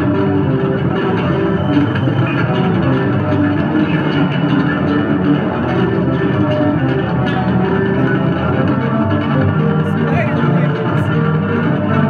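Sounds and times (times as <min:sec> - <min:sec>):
electric bass guitar solo: 0:00.0 - 0:12.0.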